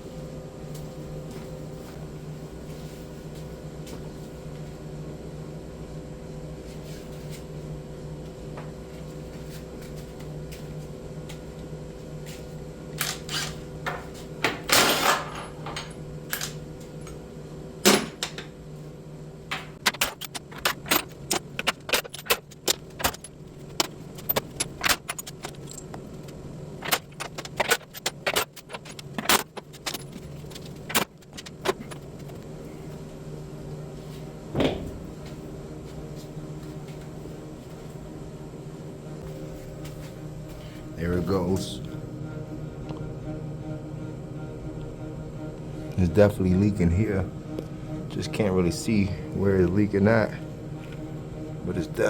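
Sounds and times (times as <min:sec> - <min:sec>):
low machinery hum: 0:00.0 - 0:52.0.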